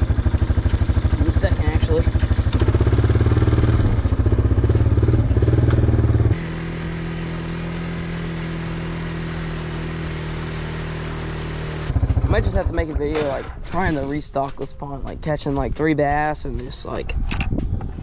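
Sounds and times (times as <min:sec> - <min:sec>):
quad bike engine pulsing: 0:00.0 - 0:16.2.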